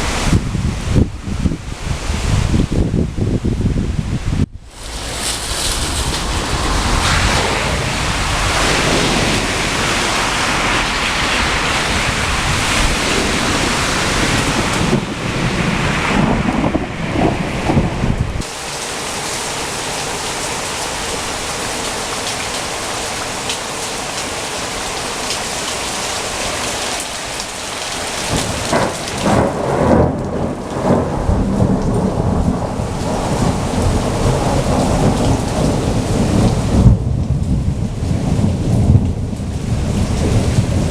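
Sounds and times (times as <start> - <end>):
thunder rumbling and crackling: 0.0 - 18.8, 27.0 - 40.9
heavy rain falling: 0.0 - 40.9.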